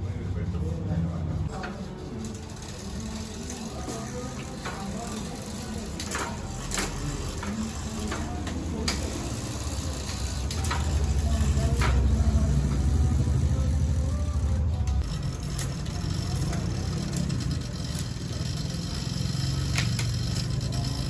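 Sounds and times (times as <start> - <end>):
low engine rumble: 0.0 - 21.0
bicycle parts clicking and knocking: 1.5 - 21.0.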